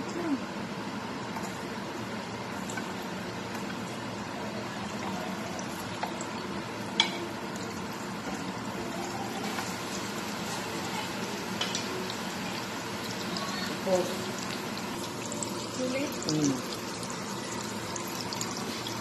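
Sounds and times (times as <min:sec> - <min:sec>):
food sizzling in hot oil: 0:00.9 - 0:19.0.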